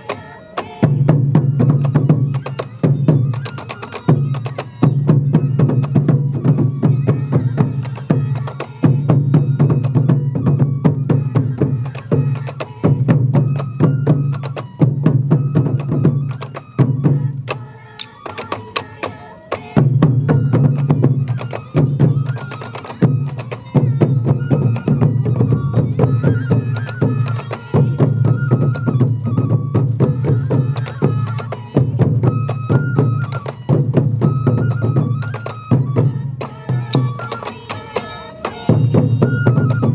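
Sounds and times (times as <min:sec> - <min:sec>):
taiko drums beating: 0:00.0 - 0:17.6, 0:18.3 - 0:39.9.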